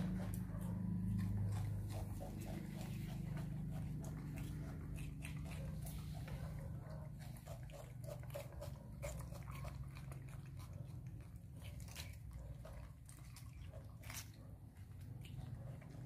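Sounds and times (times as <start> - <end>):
monkeys crunching cucumber: 0.0 - 16.0
steady low hum: 0.0 - 16.0.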